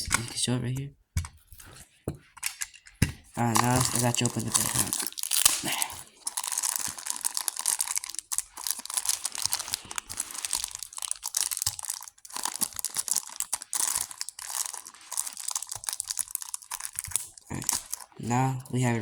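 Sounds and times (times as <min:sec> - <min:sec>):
plastic bag crinkling: 0:03.3 - 0:19.0.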